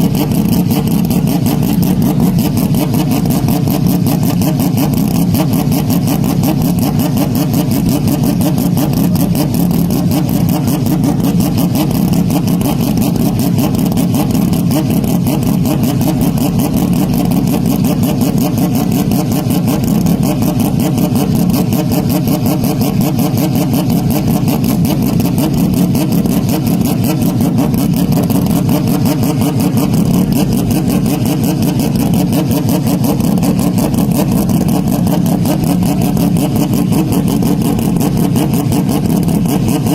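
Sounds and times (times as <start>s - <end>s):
distorted engine buzzing drone: 0.0s - 39.9s.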